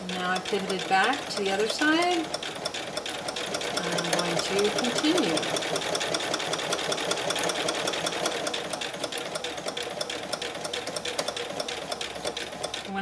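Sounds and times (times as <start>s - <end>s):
sewing machine motor hum: 0.0s - 13.0s
sewing machine needle clicking: 0.0s - 13.0s.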